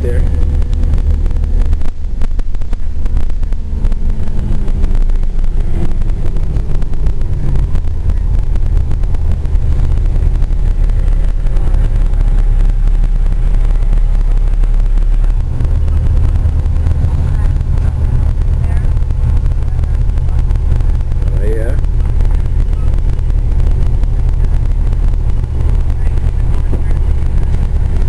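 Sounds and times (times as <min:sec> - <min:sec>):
bus engine drone: 0:00.0 - 0:28.0
faint whine: 0:00.0 - 0:28.0
road noise: 0:00.0 - 0:28.0.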